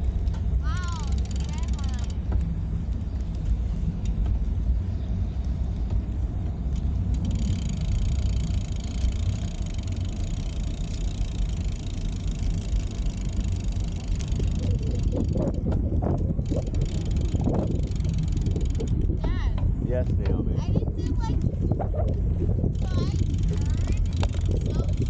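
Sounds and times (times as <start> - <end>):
bicycle road noise: 0.0 - 25.0
wind buffeting microphone: 0.0 - 25.0.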